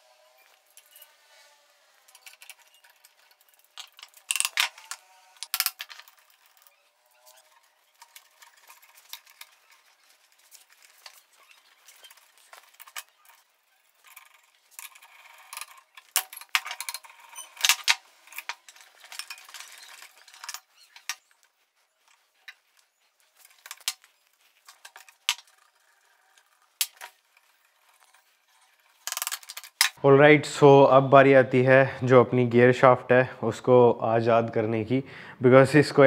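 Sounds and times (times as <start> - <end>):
light metal scraping: 0.0 - 30.0.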